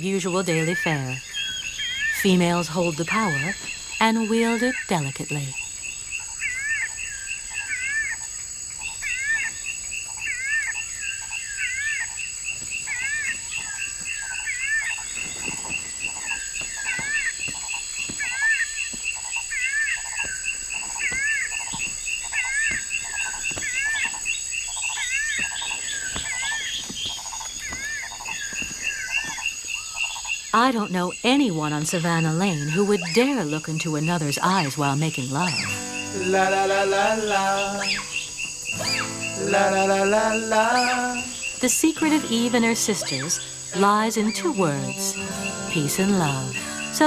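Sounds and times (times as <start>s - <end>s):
insect trill: 0.0s - 47.0s
animal chirping calls: 0.4s - 30.4s, 31.9s - 47.0s.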